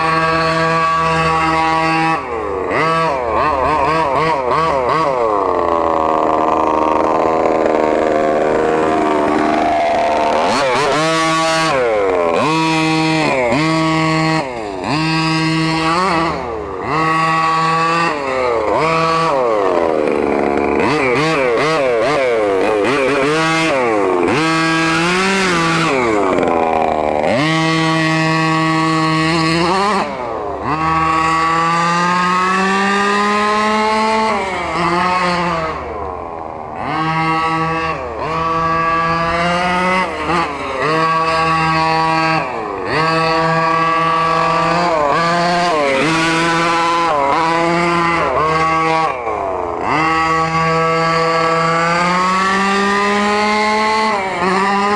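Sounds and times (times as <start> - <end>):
small gas engine revving: 0.0 - 54.9.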